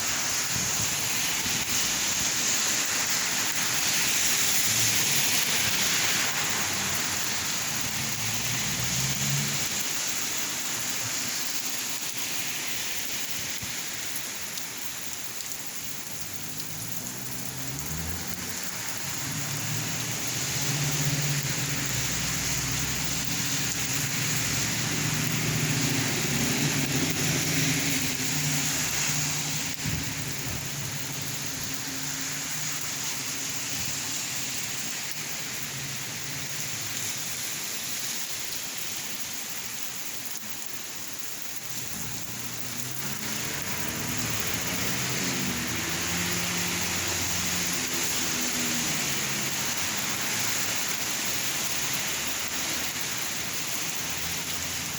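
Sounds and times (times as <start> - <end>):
rain falling and splashing: 0.0 - 54.9.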